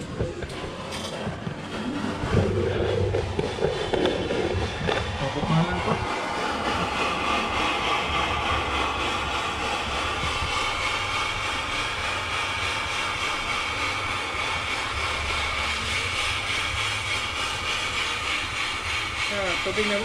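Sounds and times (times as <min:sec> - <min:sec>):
high machine whine: 0:00.0 - 0:20.0
machine motor hum: 0:00.0 - 0:20.0.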